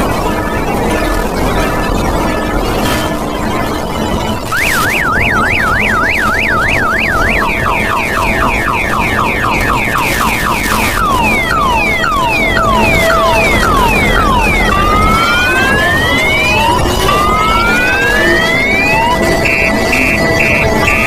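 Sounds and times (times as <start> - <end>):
electronic car alarm siren: 0.0 - 21.0
steady noise: 0.0 - 21.0.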